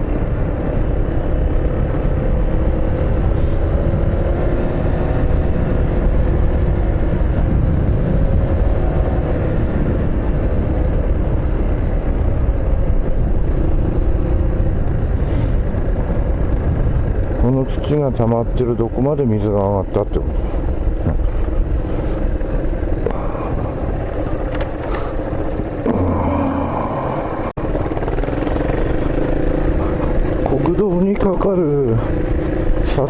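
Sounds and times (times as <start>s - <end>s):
car engine hum: 0.0s - 33.0s
road noise: 0.0s - 33.0s.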